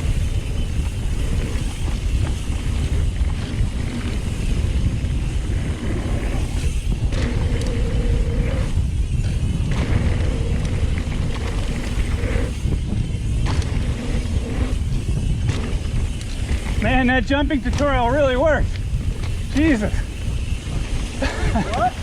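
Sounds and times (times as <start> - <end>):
mountain bike riding on dirt: 0.0 - 22.0
steady buzz: 0.0 - 22.0
wind noise on microphone: 0.0 - 22.0.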